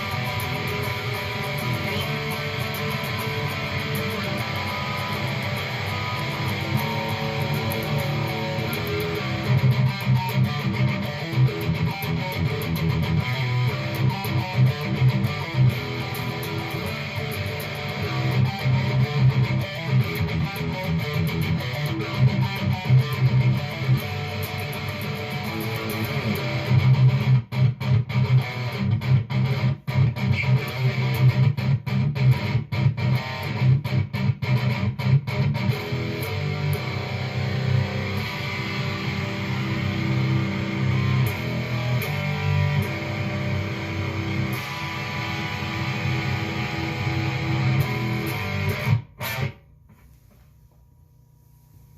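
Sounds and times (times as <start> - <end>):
electric guitar chords strummed: 0.0 - 49.7.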